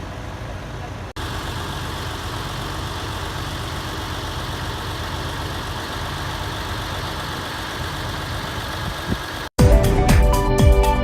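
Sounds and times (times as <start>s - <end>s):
heavy vehicle engine idling: 0.0s - 9.5s.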